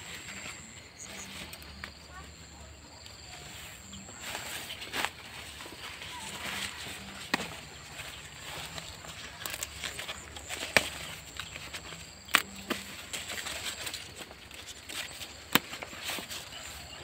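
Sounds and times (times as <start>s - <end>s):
rustling of things picked from grass: 0.0s - 17.0s.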